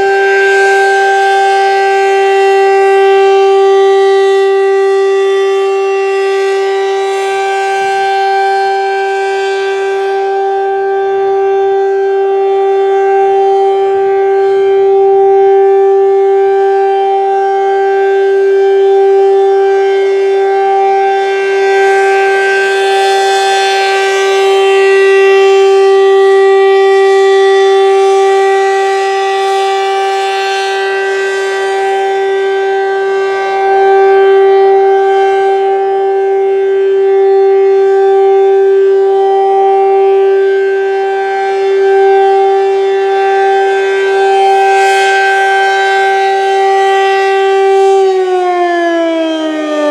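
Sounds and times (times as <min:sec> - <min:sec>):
warning siren steady tone: 0:00.0 - 0:49.9.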